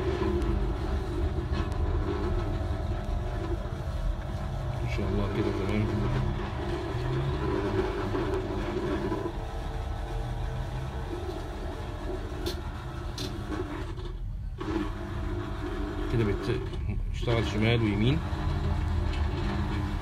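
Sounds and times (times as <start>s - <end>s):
juicer motor humming: 0.0s - 20.0s.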